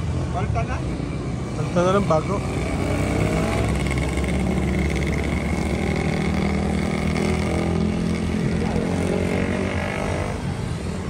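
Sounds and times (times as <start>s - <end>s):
motorcycle engines passing: 0.0s - 11.0s.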